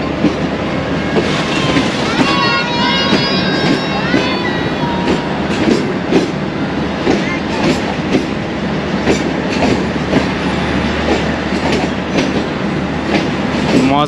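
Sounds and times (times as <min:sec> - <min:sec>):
train rumble: 0:00.0 - 0:14.0
train wheels clacking over rail joints: 0:00.0 - 0:14.0.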